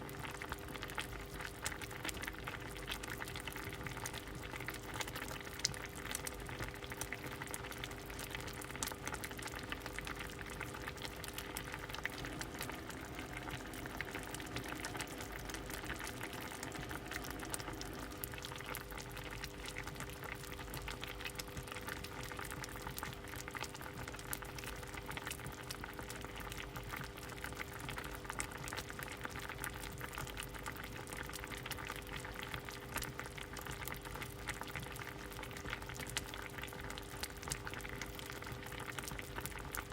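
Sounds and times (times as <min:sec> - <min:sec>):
faint steady hum: 0:00.0 - 0:39.9
soup boiling and bubbling: 0:00.0 - 0:39.9.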